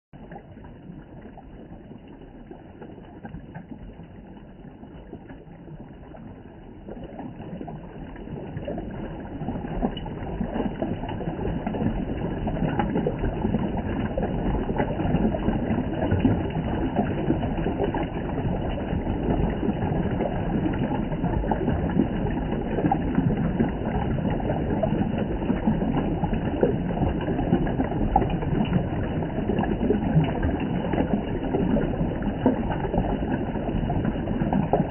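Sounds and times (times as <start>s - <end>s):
water rushing and splashing: 0.2s - 34.9s.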